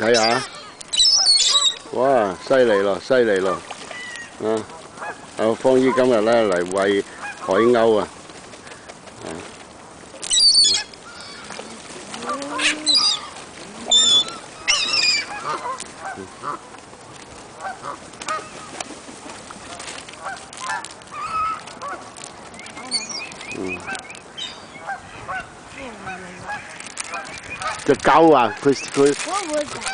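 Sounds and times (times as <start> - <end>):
seagulls calling: 0.0 - 9.4, 10.2 - 16.8, 17.5 - 29.9.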